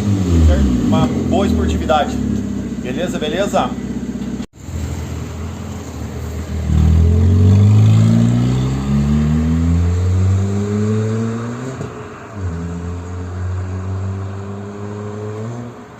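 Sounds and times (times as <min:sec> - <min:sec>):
car exhaust accelerating: 0:00.0 - 0:15.9.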